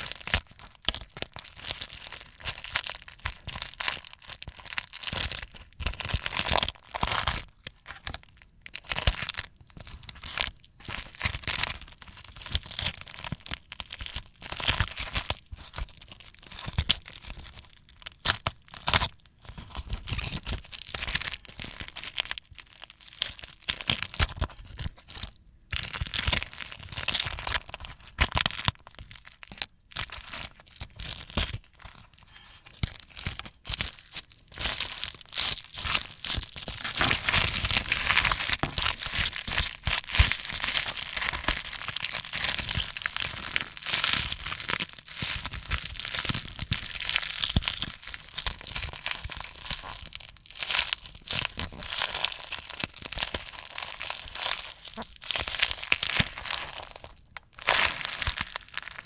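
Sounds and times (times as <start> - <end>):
dried slime crackling and tearing: 0.0 - 59.0.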